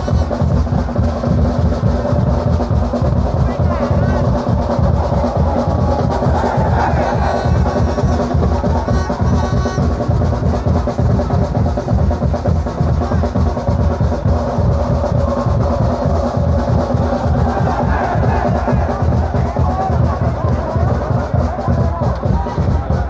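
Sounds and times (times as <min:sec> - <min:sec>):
drums beating fast roll: 0:00.0 - 0:23.0.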